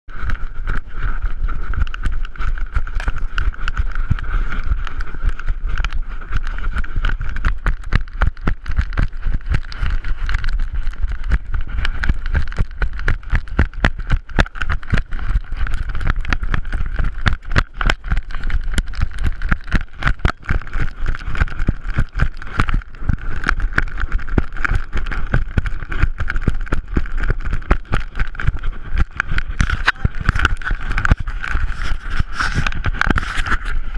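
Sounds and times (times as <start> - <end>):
camera knocking and rubbing: 0.1 - 33.9
steady low rumble: 0.1 - 33.9.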